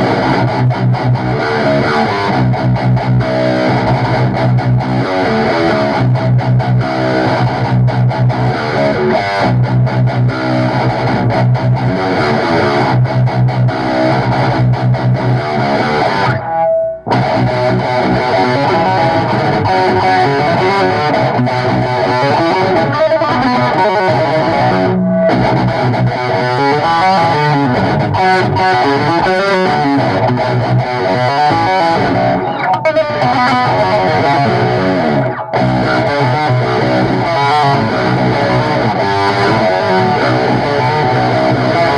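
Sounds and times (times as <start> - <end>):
heavy distorted guitar and bass riff: 0.0 - 41.9.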